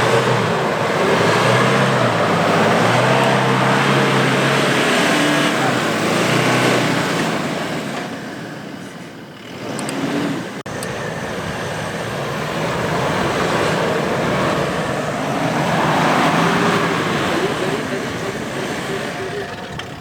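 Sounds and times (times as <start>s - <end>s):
suv engine working hard: 0.0s - 20.0s.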